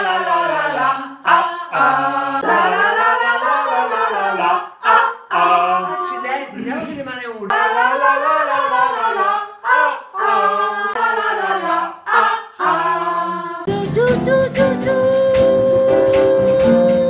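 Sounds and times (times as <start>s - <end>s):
women singing a cappella: 0.0s - 6.3s, 7.5s - 17.0s.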